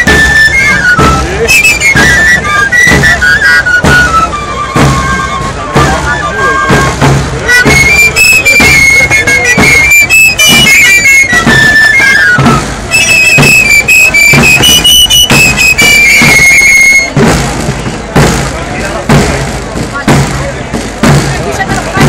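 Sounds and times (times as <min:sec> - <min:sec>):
drum stick beats: 0:00.0 - 0:22.0
shrill pipe melody: 0:00.0 - 0:22.0.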